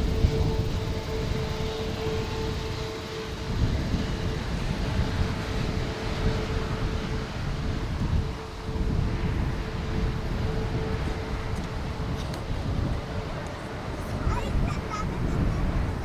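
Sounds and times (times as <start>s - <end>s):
airliner engines droning: 0.0s - 16.0s
wind rumble on microphone: 0.0s - 16.0s.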